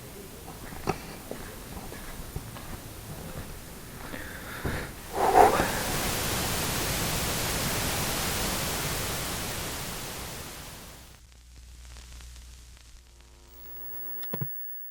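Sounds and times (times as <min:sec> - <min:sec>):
loud static hiss: 0:00.0 - 0:14.5.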